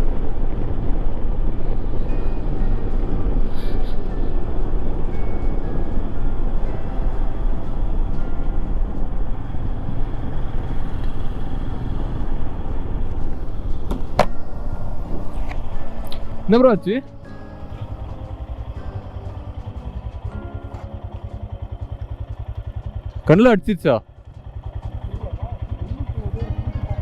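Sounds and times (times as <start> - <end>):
motorcycle engine rumble: 0.0 - 27.0.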